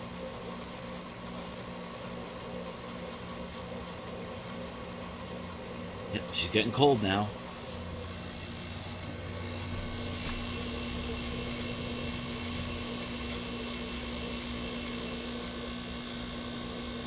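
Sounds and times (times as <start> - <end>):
air conditioner compressor hum: 0.0 - 17.0
fan hiss: 0.0 - 17.0.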